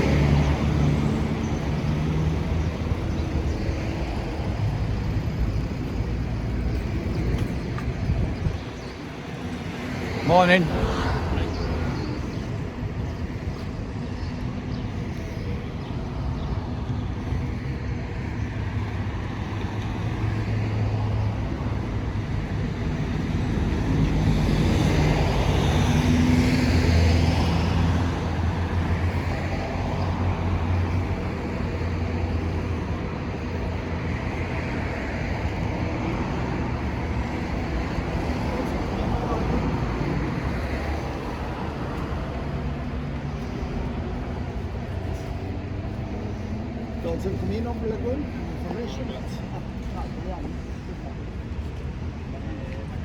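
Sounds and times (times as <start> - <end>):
road traffic engine hum: 0.0 - 53.0.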